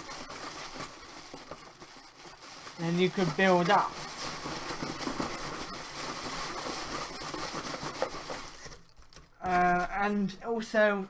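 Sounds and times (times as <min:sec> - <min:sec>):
leaves and plastic bag rustling: 0:00.0 - 0:08.8, 0:09.4 - 0:09.9.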